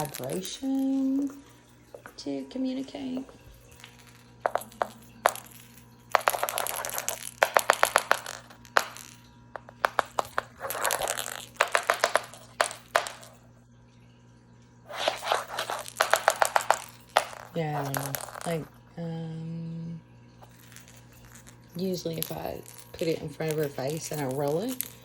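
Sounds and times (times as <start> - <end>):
cat toy rattling on floor: 0.0 - 1.4, 3.2 - 13.4, 14.9 - 18.7, 20.4 - 25.0.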